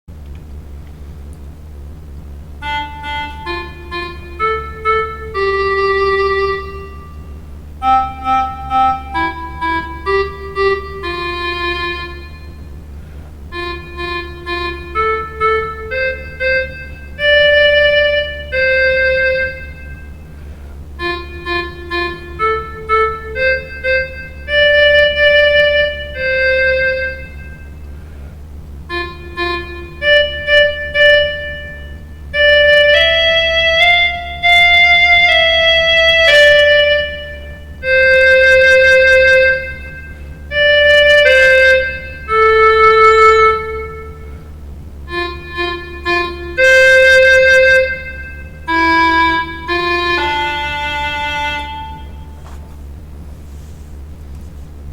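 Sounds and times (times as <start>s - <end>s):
steady low hum: 0.1s - 54.9s
slow organ-like keyboard melody: 0.3s - 53.3s.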